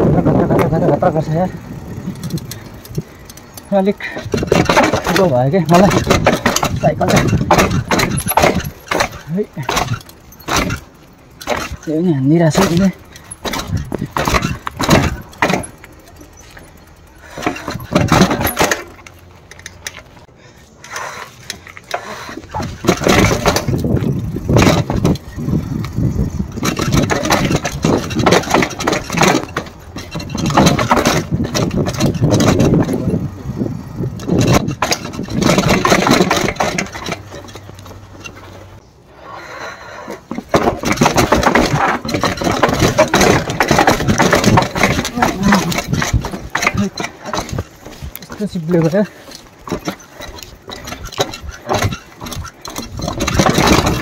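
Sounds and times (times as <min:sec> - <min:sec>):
mountain bike rattling over rough ground: 0:00.0 - 0:38.9, 0:39.9 - 0:54.0.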